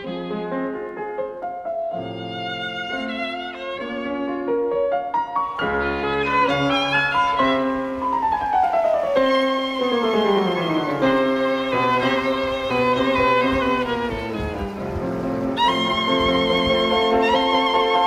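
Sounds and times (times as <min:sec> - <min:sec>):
violin melody: 0:00.0 - 0:18.0.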